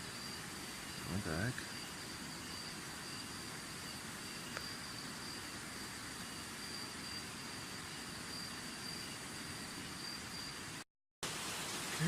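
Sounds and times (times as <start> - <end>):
cricket trilling: 0.0 - 10.8
rushing background hiss: 0.0 - 12.0.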